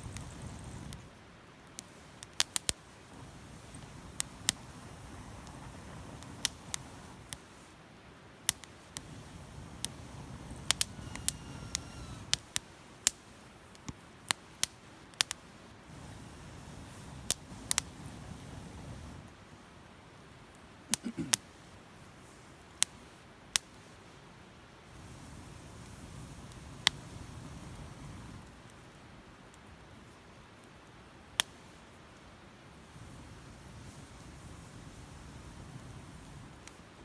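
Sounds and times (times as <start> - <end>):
wood fire crackling: 0.0 - 24.2, 24.8 - 37.0.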